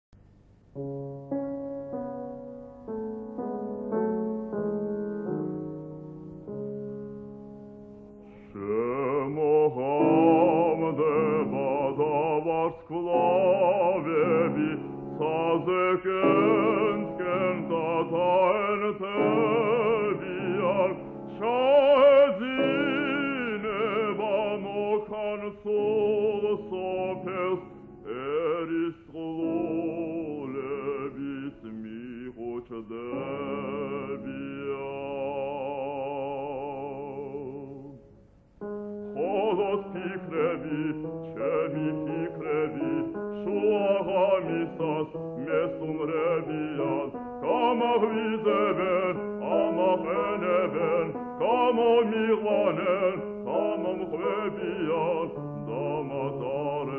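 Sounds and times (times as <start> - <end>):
piano accompaniment: 0.6 - 56.9
man singing with wide vibrato: 8.3 - 56.9.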